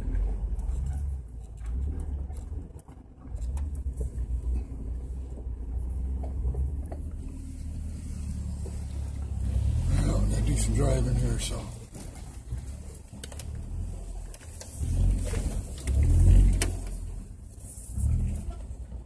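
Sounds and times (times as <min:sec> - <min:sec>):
off-road vehicle engine rumbling: 0:00.0 - 0:19.0.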